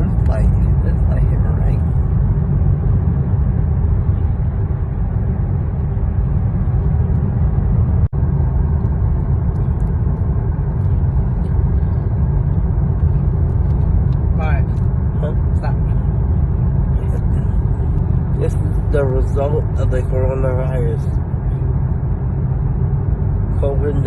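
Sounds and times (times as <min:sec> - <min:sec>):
car cabin road rumble: 0:00.0 - 0:24.0.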